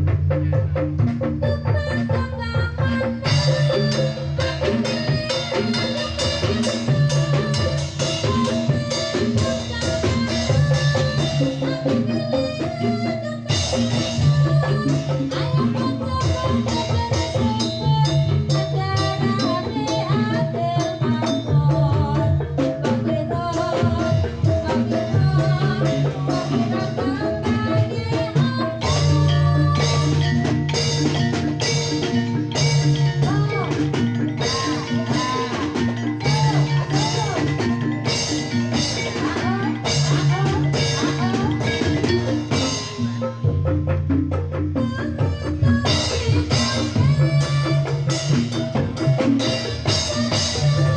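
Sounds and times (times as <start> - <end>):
drums keeping a driving beat: 0.0 - 50.9
gamelan ensemble playing: 0.0 - 50.9.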